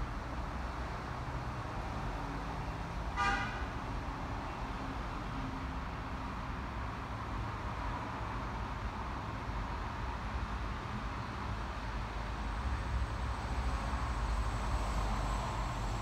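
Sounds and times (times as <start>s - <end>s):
cars passing on a road: 0.0s - 16.0s
low traffic rumble: 0.0s - 16.0s.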